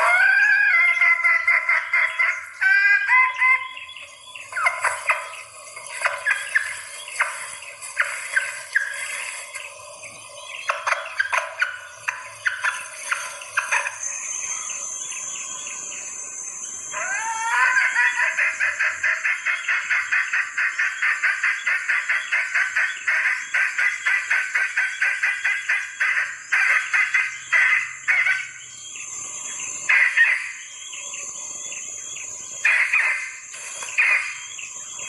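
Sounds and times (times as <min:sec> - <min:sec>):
hen clucking calls: 0:00.0 - 0:14.1, 0:16.9 - 0:28.6, 0:29.8 - 0:30.6, 0:32.6 - 0:34.6.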